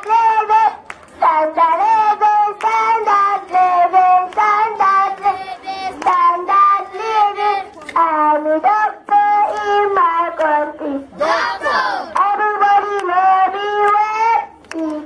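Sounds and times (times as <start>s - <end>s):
child singing into microphone: 0.0s - 15.0s.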